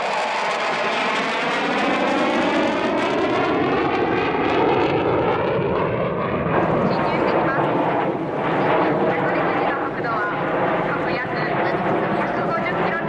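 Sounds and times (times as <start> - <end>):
jet flyby roar: 0.0 - 13.0.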